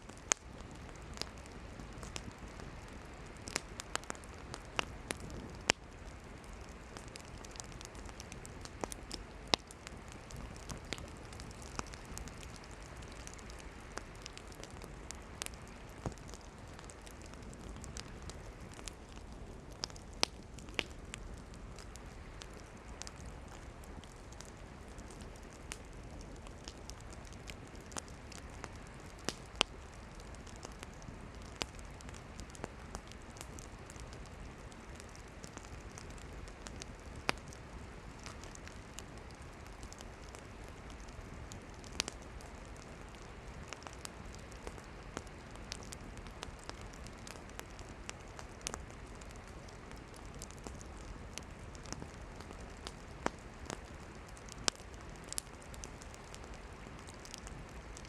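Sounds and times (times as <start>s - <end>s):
campfire flames rushing: 0.0s - 58.0s
firewood crackling and popping: 0.0s - 58.0s.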